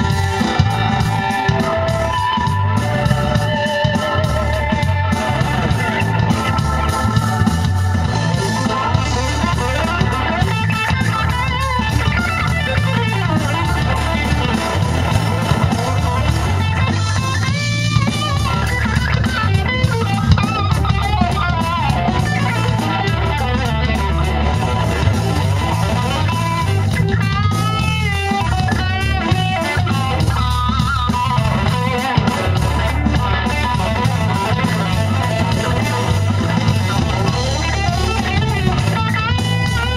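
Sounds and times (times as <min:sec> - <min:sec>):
bass guitar: 0:00.0 - 0:39.9
drum kit: 0:00.0 - 0:39.9
electric guitar: 0:00.0 - 0:39.9
wavering lead line: 0:00.0 - 0:39.9.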